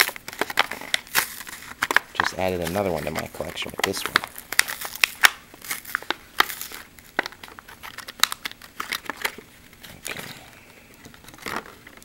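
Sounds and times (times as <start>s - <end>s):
plastic packaging crinkling and tearing: 0.0s - 12.0s.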